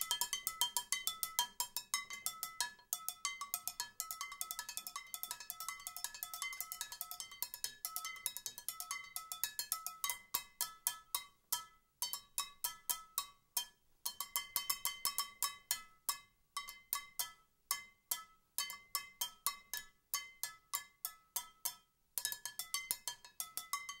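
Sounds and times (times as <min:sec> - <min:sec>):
skillet struck as percussion: 0:00.0 - 0:24.0.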